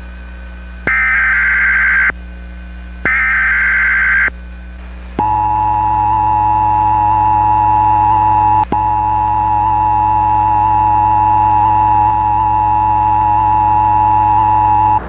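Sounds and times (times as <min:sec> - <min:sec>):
data tones screech: 0:00.9 - 0:02.1, 0:03.1 - 0:04.3, 0:05.2 - 0:15.0.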